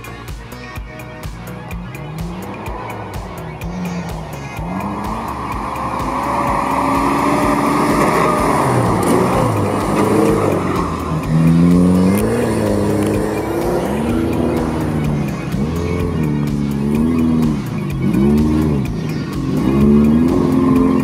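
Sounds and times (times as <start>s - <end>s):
music with steady beat: 0.0s - 21.0s
suv engines revving: 0.0s - 21.0s.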